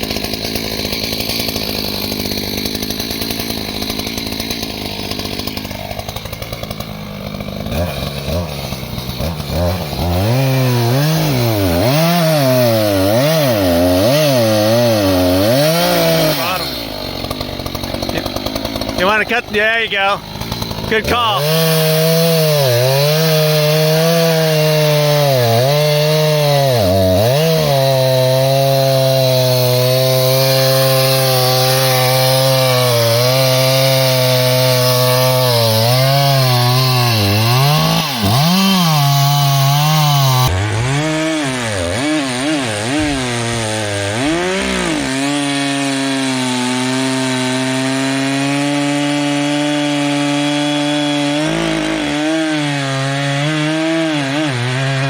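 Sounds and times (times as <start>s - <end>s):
reciprocating saw cutting log: 0.0s - 55.0s.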